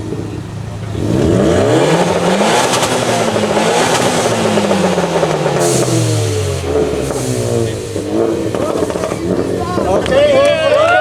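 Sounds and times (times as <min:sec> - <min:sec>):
car engine revving hard: 0:00.0 - 0:11.0
exhaust crackling: 0:00.0 - 0:11.0.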